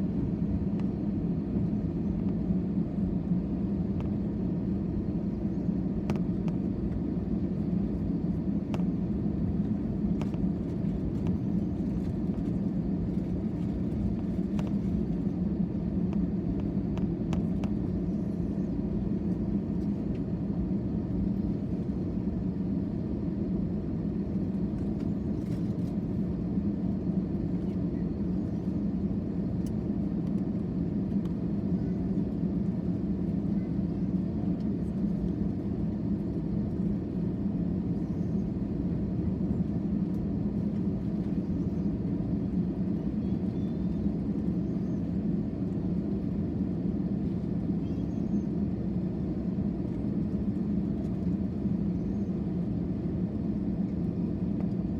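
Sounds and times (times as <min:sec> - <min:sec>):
jet engine rumble in cabin: 0:00.0 - 0:54.9.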